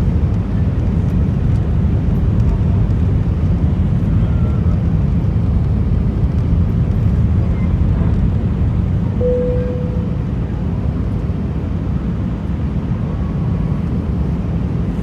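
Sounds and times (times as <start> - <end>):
airliner engine rumble: 0.0 - 15.0.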